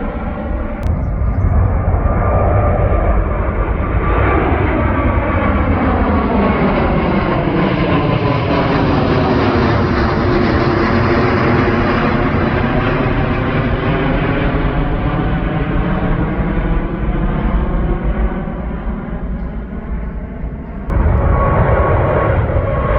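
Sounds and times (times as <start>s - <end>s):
jet engines roaring: 0.0s - 22.9s.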